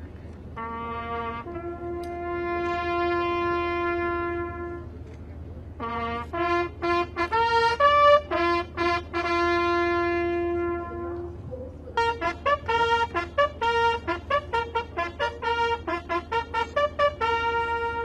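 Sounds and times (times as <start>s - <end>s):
bugle call on brass horn: 0.5s - 5.0s, 5.8s - 18.0s.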